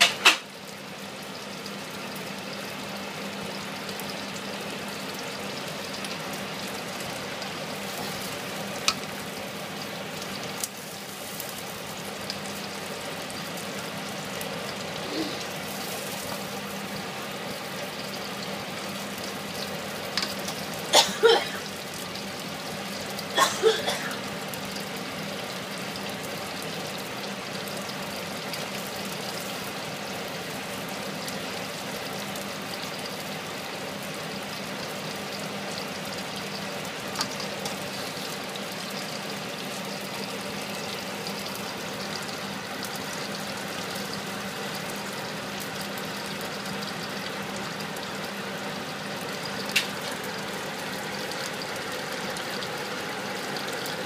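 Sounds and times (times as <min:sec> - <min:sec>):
prawns sizzling in oil: 0:00.0 - 0:54.0.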